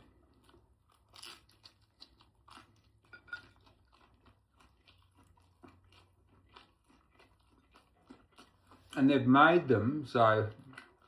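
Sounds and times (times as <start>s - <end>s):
person chewing crunchy food: 0.0s - 9.8s, 10.5s - 11.0s.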